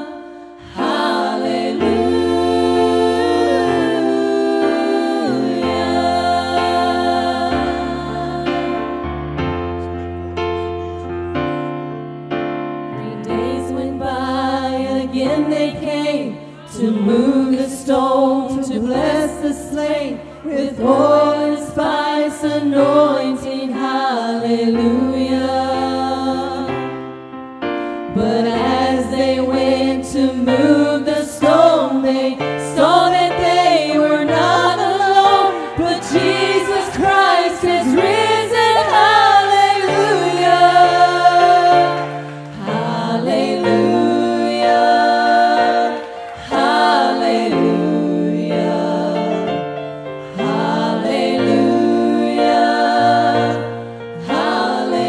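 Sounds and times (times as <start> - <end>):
women singing gospel in harmony: 0.0 - 9.2, 13.0 - 27.0, 28.1 - 55.0.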